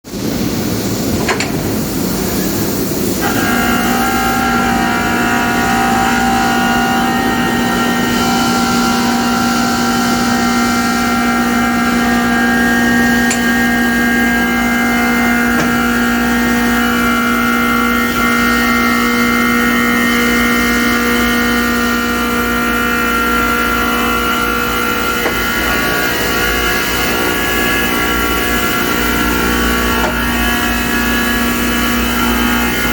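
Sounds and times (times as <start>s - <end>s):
steady whining tones: 0.5s - 32.9s
grinding machine running: 1.8s - 32.9s.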